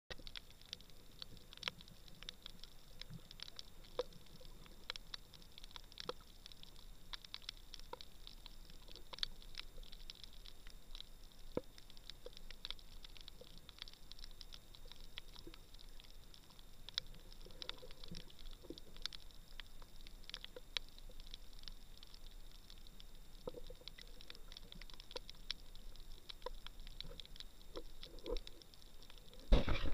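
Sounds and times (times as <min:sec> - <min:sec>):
snapping shrimp crackling underwater: 0:00.1 - 0:29.9.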